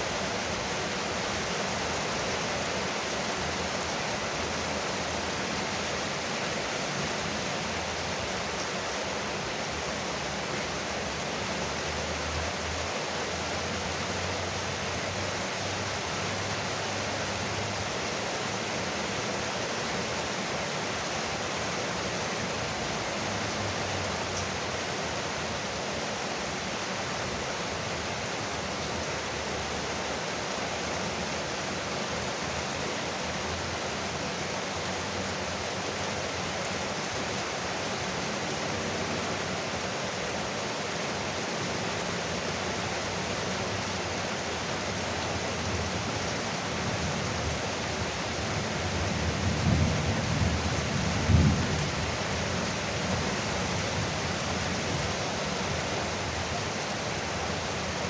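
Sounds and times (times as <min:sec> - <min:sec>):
rain on a roof: 0:00.0 - 0:58.0.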